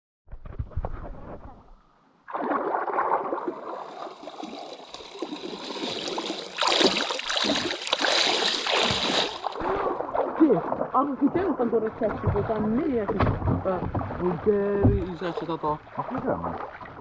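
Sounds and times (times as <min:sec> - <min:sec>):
river water gurgling and splashing: 0:02.3 - 0:17.0.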